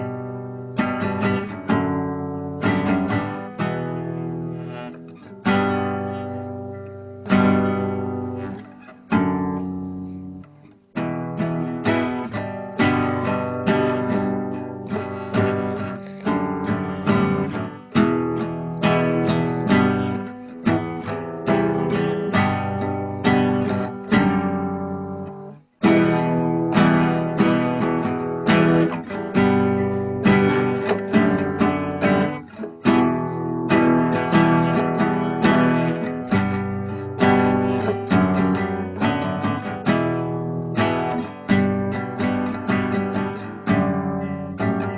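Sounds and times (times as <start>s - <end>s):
acoustic guitar strumming chords: 0.0s - 44.9s.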